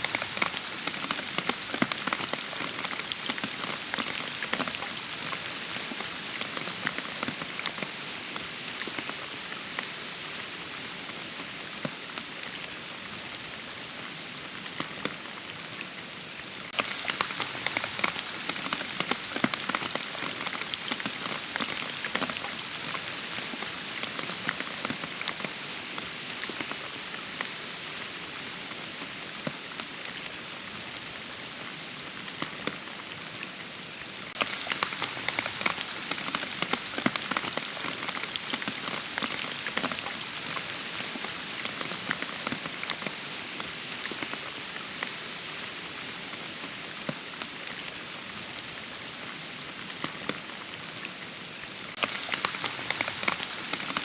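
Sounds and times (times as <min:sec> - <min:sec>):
close rain drops ticking: 0:00.0 - 0:54.0
steady rain hiss: 0:00.0 - 0:54.0.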